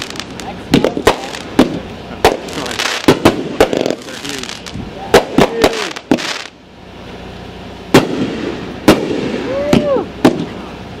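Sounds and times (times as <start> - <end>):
fireworks booming: 0.0 - 10.8.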